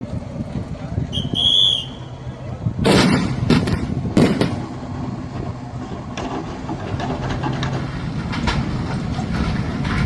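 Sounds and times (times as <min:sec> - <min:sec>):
heavy engine humming: 0:00.0 - 0:10.0.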